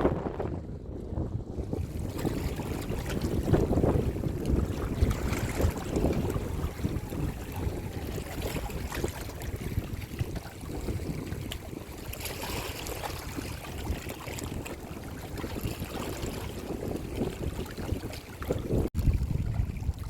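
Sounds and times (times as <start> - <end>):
wind buffeting microphone: 0.0 - 20.0
small waves washing on shore: 1.4 - 20.0.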